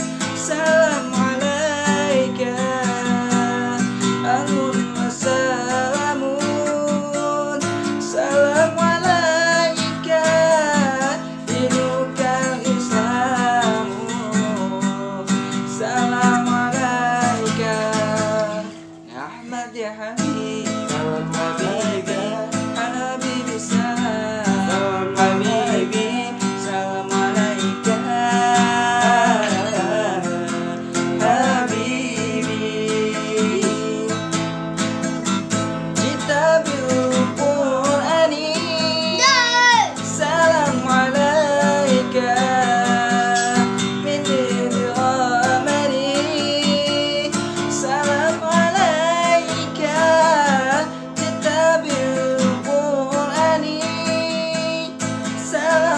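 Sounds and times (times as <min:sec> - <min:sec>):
man singing ornamented devotional song: 0:00.0 - 0:55.9
strummed acoustic guitar: 0:00.0 - 0:55.9.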